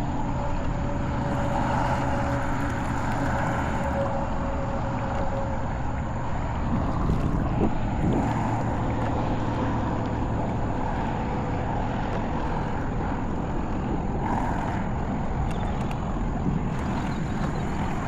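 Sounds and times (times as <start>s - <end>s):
faint steady hum: 0.0s - 18.0s
wind and water rushing: 0.0s - 18.0s.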